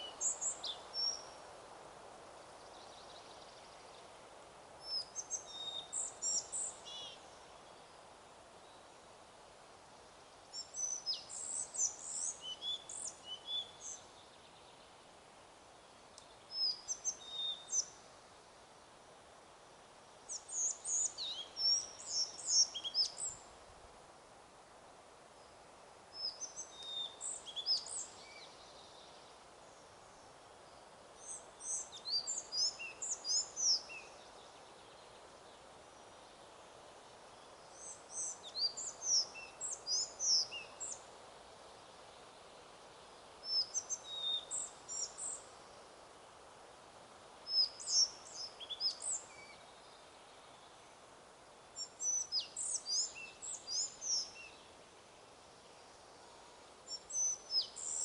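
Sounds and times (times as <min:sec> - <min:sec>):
songbird chirping: 0:00.0 - 0:01.6, 0:02.2 - 0:09.2, 0:10.4 - 0:18.7, 0:19.3 - 0:24.0, 0:24.6 - 0:58.0
wind in trees: 0:00.0 - 0:58.0.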